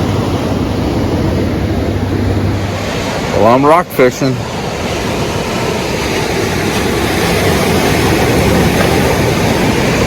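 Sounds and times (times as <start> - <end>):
ocean surf on rocks: 0.0 - 10.0
wind buffeting microphone: 0.0 - 10.0.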